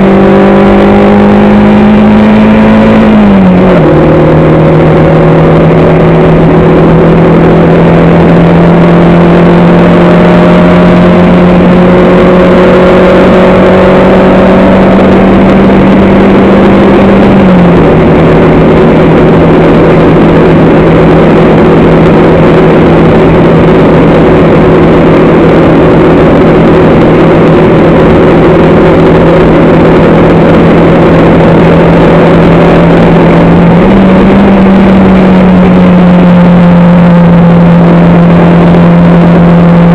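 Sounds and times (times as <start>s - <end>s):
racing engine at high revs: 0.0s - 39.9s.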